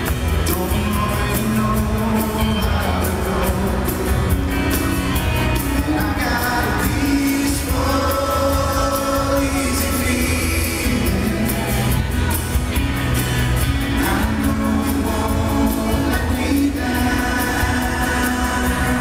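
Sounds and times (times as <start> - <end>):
person singing into microphone: 0.0 - 12.7, 13.8 - 19.0
acoustic guitar: 0.0 - 19.0
heavy steady bass: 0.0 - 19.0.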